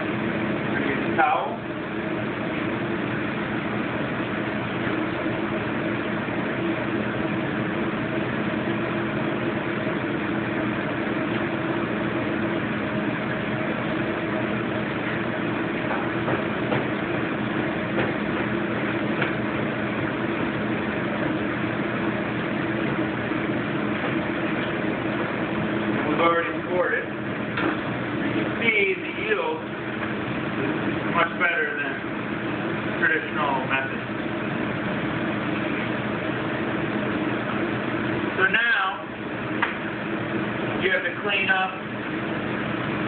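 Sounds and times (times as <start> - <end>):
fan motor humming: 0.0 - 43.0.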